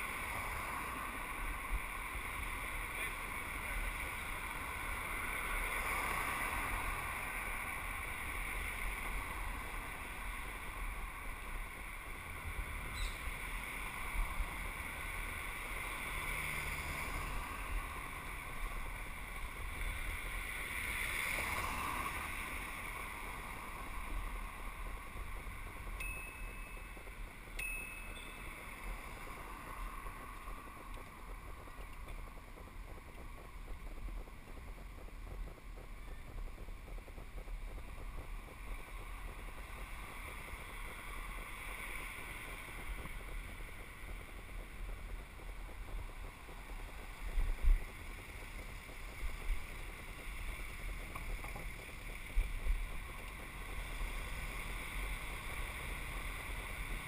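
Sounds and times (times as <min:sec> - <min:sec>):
street traffic: 0:00.0 - 0:57.0.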